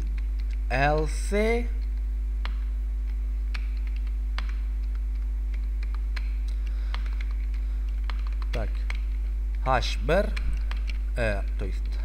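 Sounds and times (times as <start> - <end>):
keyboard typing clicks: 0.0 - 1.1, 1.9 - 12.0
steady low hum: 0.0 - 12.0.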